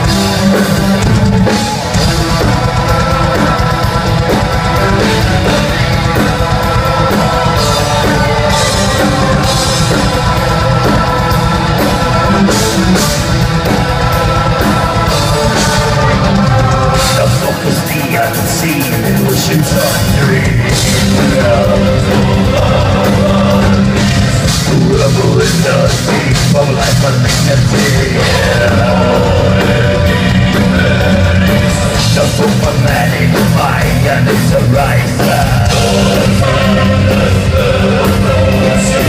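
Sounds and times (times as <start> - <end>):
distorted electric guitars: 0.0 - 39.0
drum kit: 0.0 - 39.0.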